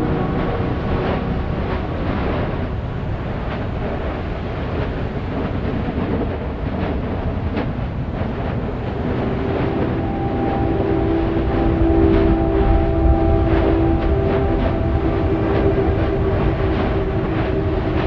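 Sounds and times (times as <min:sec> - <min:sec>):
volcanic vent rumbling: 0:00.0 - 0:18.0.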